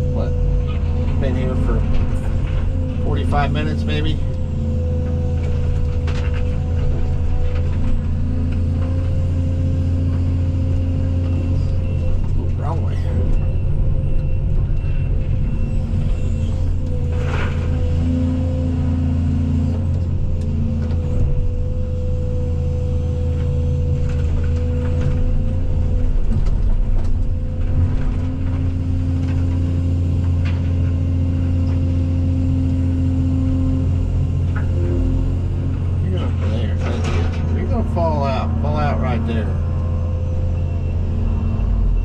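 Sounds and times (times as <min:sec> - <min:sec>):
excavator diesel engine droning: 0:00.0 - 0:42.0.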